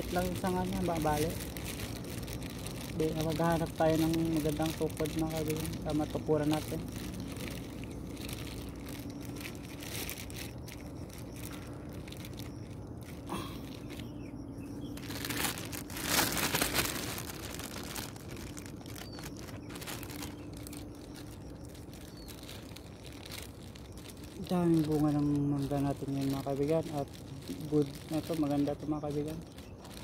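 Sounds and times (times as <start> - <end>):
faint steady hum: 0.0 - 30.0
leaves and sticks rustling: 0.0 - 30.0.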